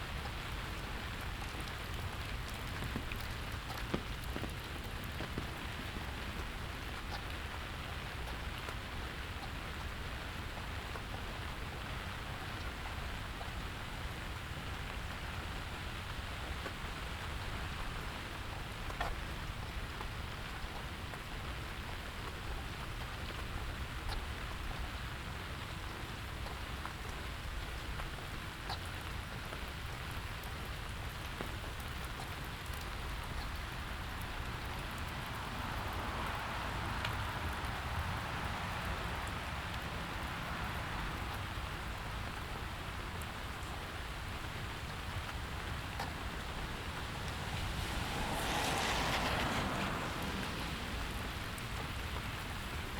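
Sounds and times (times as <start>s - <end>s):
broad rain hiss: 0.0s - 52.9s
rain on hard surfaces: 0.0s - 52.9s.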